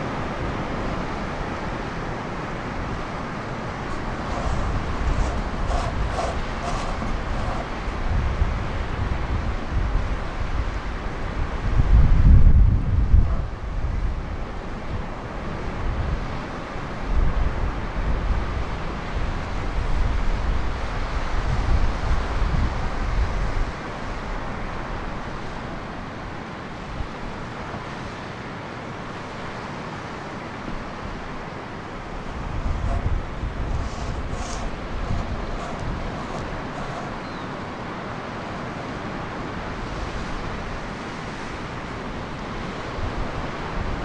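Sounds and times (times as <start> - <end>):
wind buffeting microphone: 0.0 - 28.2, 30.6 - 44.0
ocean surf washing: 0.0 - 44.0.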